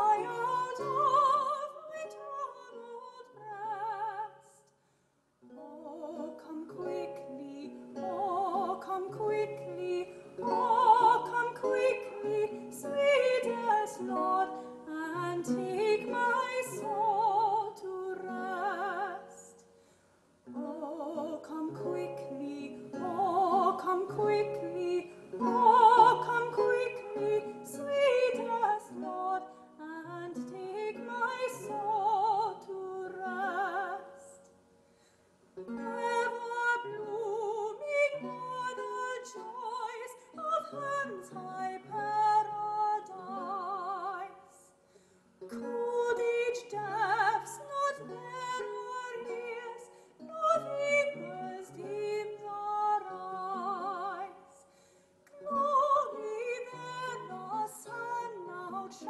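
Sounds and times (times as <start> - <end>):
plucked lute: 0.0 - 4.4, 5.4 - 19.6, 20.4 - 34.6, 35.6 - 59.0
woman singing with vibrato: 0.0 - 4.6, 5.5 - 19.5, 20.5 - 34.4, 35.7 - 44.7, 45.4 - 54.6, 55.3 - 59.0.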